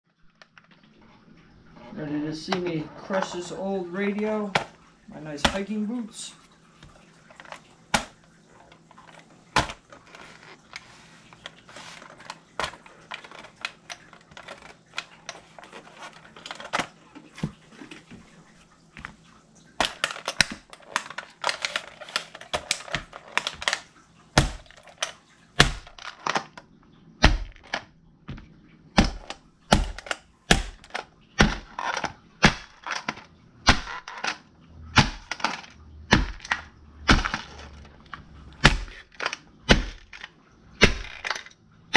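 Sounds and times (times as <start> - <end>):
plastic cracking and creaking: 0.1 - 6.0, 6.8 - 41.6
dense crackling and crunching: 0.1 - 41.6.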